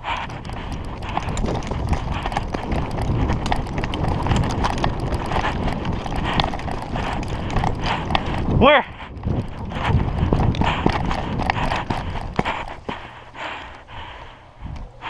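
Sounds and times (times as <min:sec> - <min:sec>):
running footsteps thudding: 0:00.0 - 0:14.4
gear jostling: 0:00.0 - 0:15.0.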